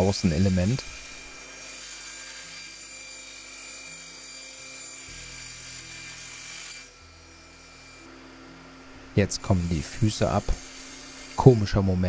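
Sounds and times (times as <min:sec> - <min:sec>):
table saw whining: 0:00.0 - 0:12.0.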